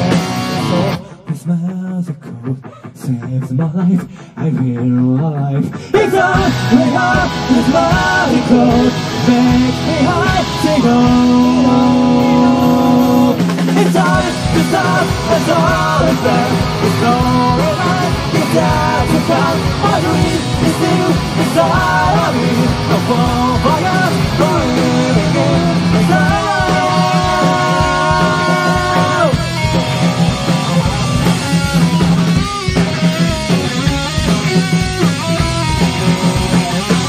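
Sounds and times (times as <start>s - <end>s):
electric guitar: 0.0s - 1.5s, 2.1s - 37.0s
person singing: 0.0s - 31.9s
bass guitar: 0.0s - 37.0s
drums: 0.0s - 37.0s.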